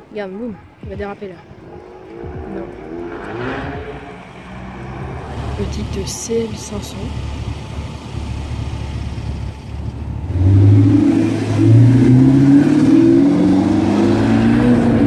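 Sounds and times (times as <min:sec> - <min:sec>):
car engine idling: 0:00.0 - 0:15.0
car engine revving pulling away: 0:01.5 - 0:15.0.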